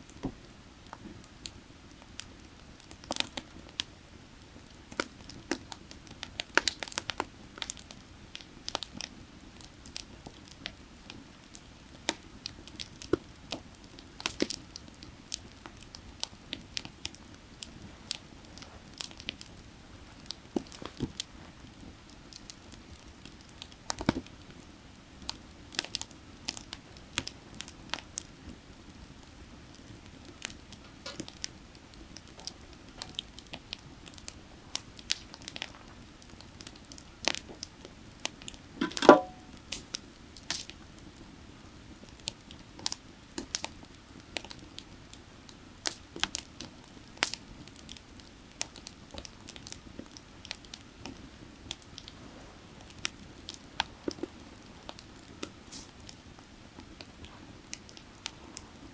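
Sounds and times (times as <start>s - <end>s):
firewood crackling and popping: 0.1s - 58.9s.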